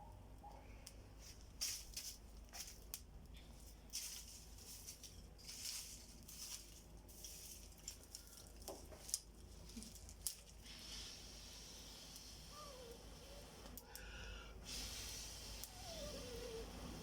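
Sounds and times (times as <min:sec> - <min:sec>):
small fire crackling: 0:00.2 - 0:17.0.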